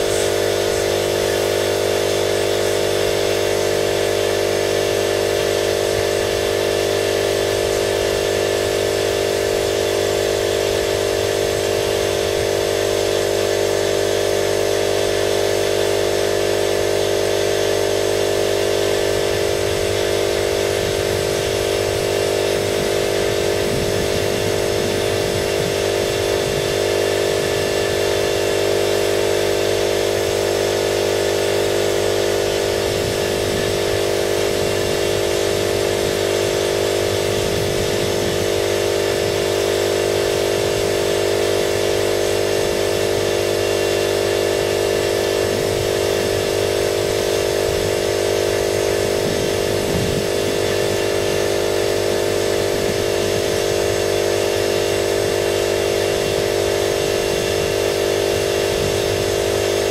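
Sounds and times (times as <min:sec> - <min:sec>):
electric motor humming with hiss: 0:00.0 - 0:59.9.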